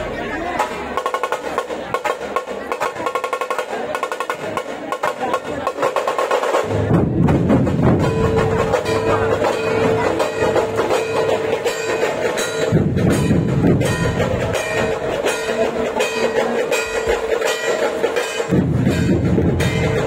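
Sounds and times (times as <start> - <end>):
deep booming barrel drums: 0.6 - 20.0
small drums playing a fast roll: 0.6 - 20.0.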